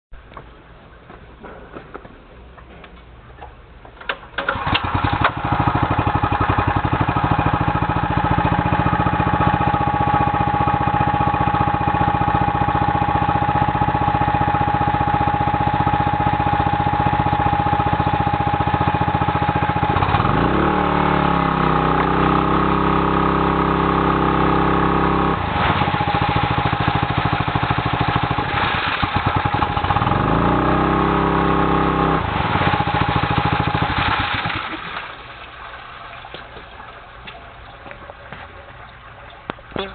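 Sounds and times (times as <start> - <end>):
pump discharging water: 4.4 - 39.9
water pump engine running: 4.4 - 39.9.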